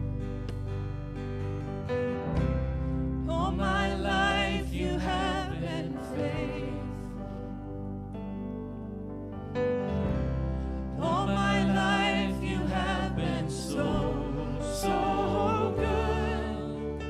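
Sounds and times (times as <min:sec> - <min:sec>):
sustained instrumental chords: 0:00.0 - 0:17.0.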